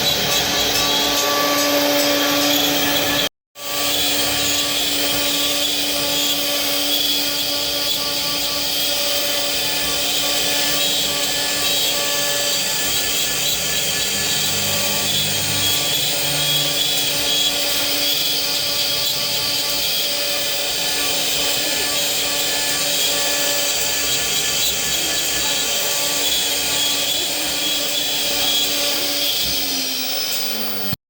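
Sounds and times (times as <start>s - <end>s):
bit cutting wood: 0.0s - 31.0s
router spindle whining: 0.0s - 31.0s.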